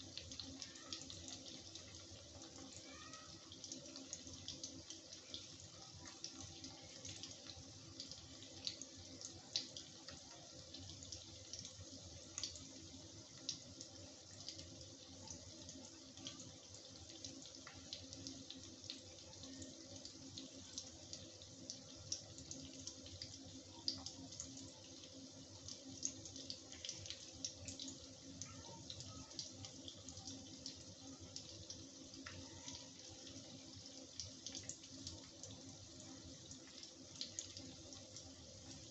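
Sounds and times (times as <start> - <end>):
cheese frying in oil: 0.0 - 38.9.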